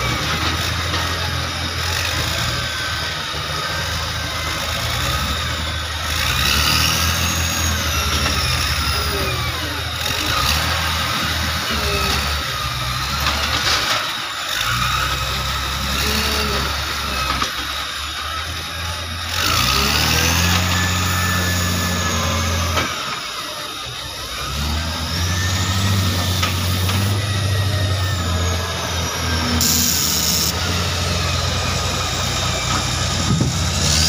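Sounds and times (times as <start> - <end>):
wheel loader diesel engine revving: 0.0 - 34.0.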